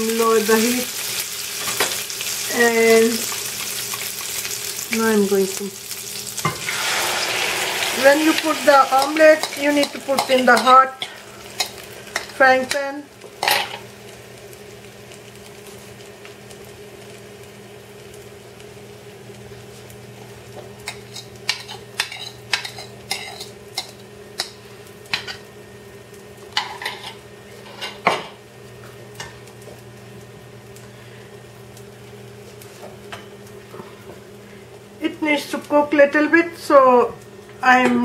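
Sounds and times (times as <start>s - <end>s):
egg mixture sizzling in a pan: 0.0s - 38.0s.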